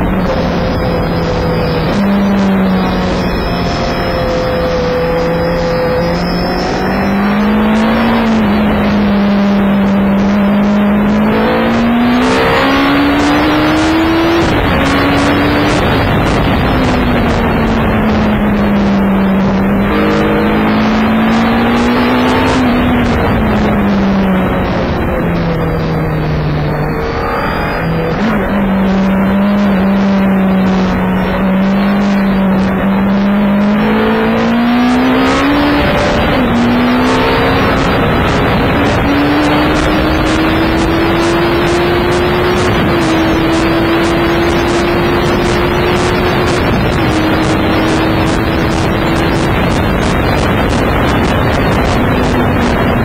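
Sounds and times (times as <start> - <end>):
motorcycle engine at speed: 0.0 - 53.0
wind rush: 0.0 - 53.0.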